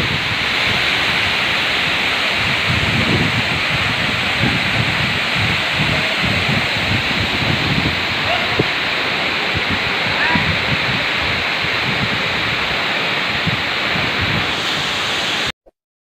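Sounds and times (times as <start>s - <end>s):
wind buffeting microphone: 0.0s - 15.0s
waterfall rushing: 0.0s - 15.5s.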